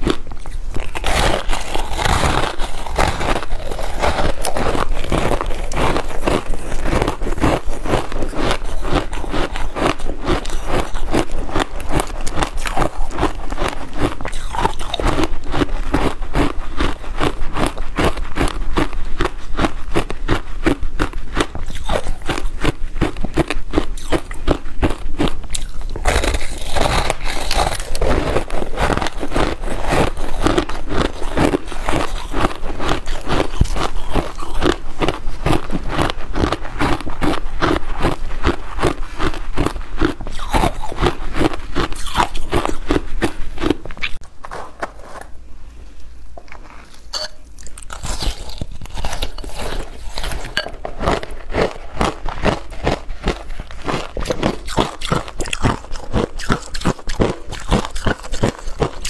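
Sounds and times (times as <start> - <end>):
crunching of ice being chewed: 0.0 - 45.4, 46.4 - 59.0.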